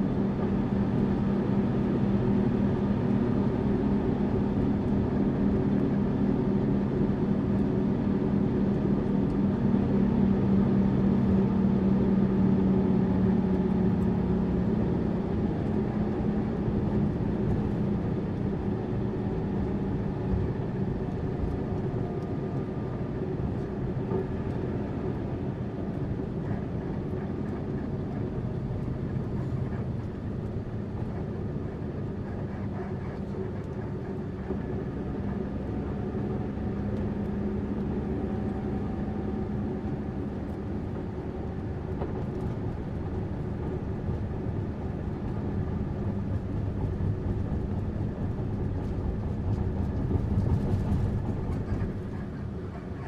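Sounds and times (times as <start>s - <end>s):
bus engine hum: 0.0s - 53.0s
road rumble: 0.0s - 53.0s.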